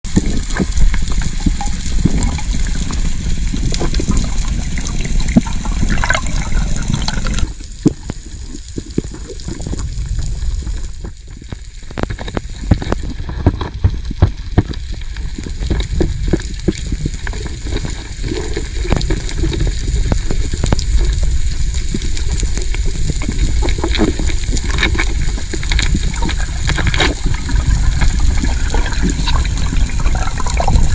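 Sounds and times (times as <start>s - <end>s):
underwater rushing and bubbles: 0.0s - 30.9s
sharp clicks underwater: 0.1s - 30.9s.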